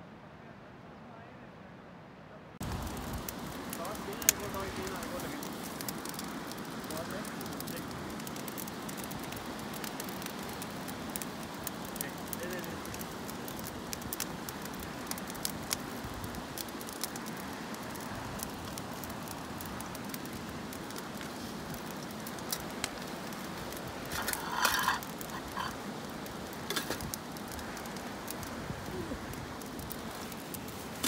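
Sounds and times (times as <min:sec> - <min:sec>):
campfire hissing: 0:02.6 - 0:31.0
fire popping and crackling: 0:02.6 - 0:31.0.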